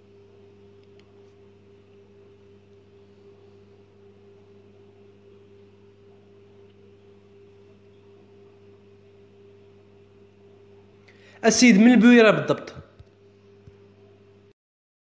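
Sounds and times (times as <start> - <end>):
faint electrical hum: 0.0 - 14.6.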